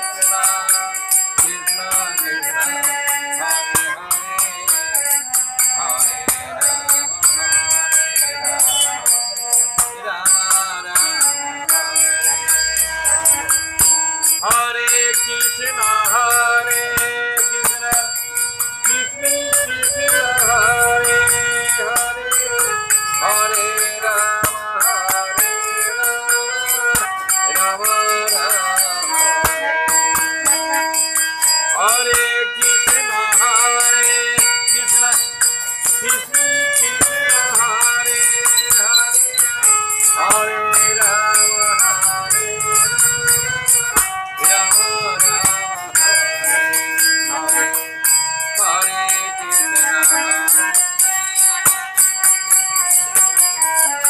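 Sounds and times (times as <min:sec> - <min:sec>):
person singing: 0:00.0 - 0:51.6
hand cymbals struck: 0:00.0 - 0:54.0
harmonium chords: 0:00.0 - 0:54.0.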